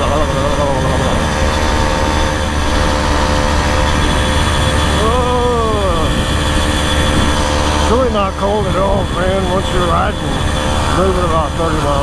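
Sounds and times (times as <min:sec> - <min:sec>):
small motorbike engine running: 0:00.0 - 0:12.0
wind rushing over microphone: 0:00.0 - 0:12.0.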